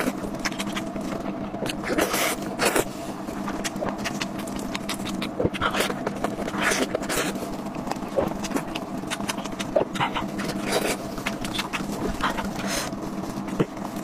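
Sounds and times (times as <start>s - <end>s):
chewing and mouth sounds: 0.0s - 14.0s
steady low hum: 0.0s - 14.0s.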